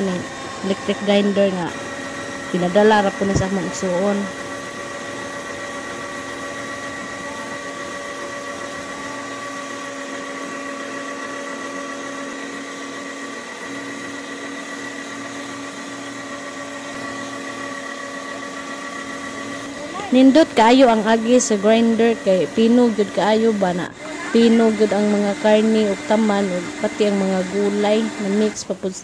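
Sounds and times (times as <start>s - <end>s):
electric meat grinder whining: 0.0s - 29.0s.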